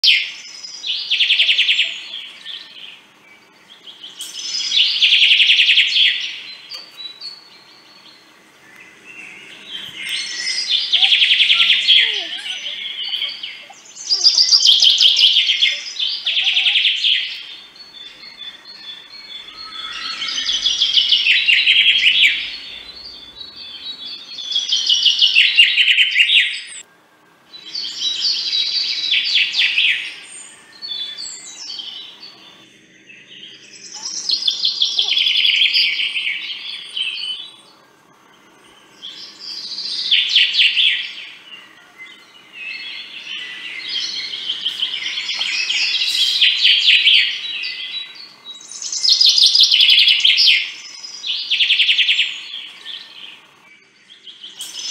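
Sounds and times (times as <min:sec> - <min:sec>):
songbirds trilling: 0:00.0 - 0:54.9.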